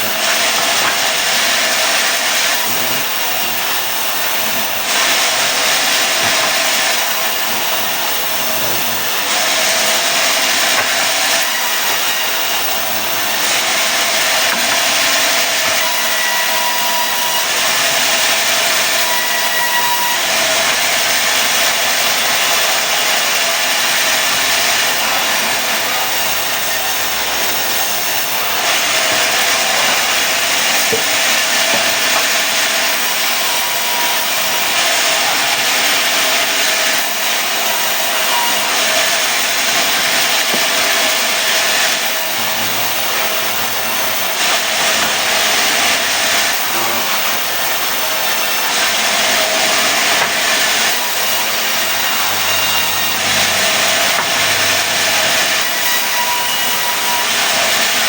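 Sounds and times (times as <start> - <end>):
sawmill blade cutting wood: 0.0 - 58.0.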